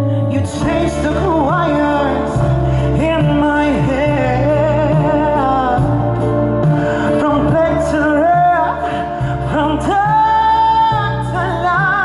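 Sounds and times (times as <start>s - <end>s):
held instrumental chords: 0.0s - 12.0s
man singing: 0.0s - 12.0s
steady bass line: 0.0s - 12.0s.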